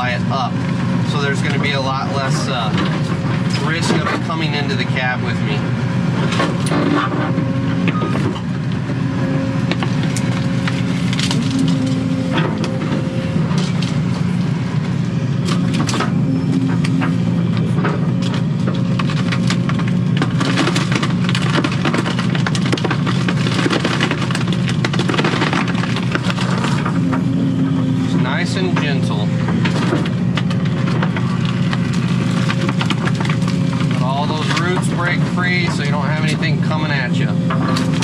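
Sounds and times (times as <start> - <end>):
excavator diesel engine running: 0.0 - 38.0
wood cracking and splintering: 0.0 - 38.0.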